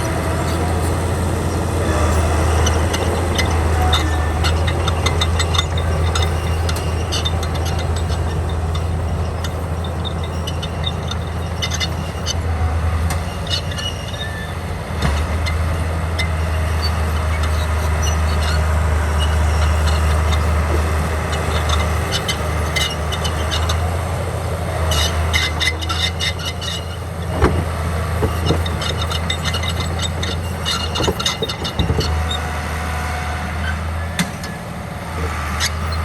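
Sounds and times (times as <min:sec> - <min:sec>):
bulldozer diesel engine running: 0:00.0 - 0:36.0
metallic clanks and rattles: 0:00.0 - 0:36.0.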